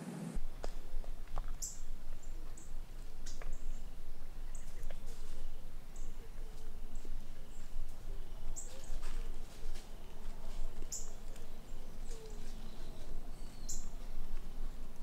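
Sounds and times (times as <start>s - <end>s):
small birds chip notes: 1.5s - 15.0s.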